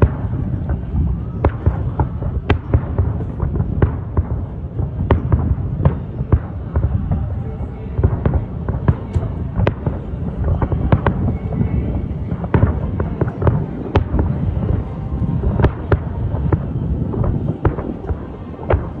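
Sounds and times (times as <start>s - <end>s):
fireworks bangs: 0.0s - 19.0s
low rumble of explosions: 0.0s - 19.0s.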